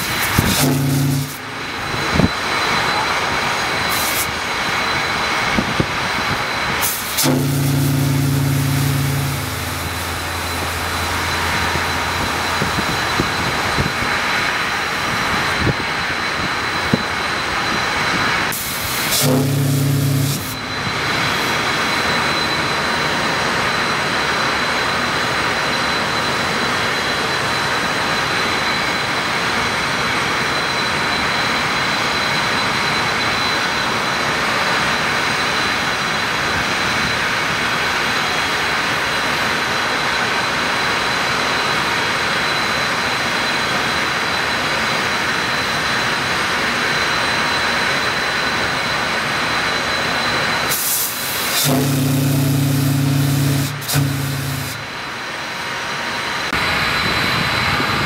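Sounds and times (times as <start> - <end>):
steam whistle air rush: 0.0 - 58.0.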